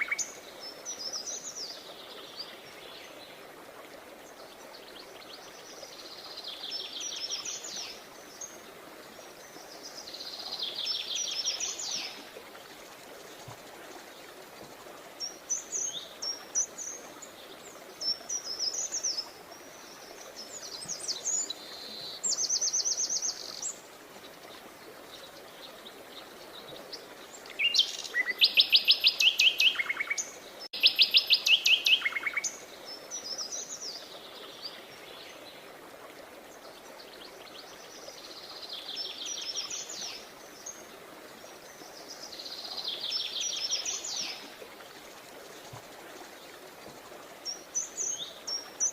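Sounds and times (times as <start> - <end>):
faint steady hiss: 0.0 - 48.9.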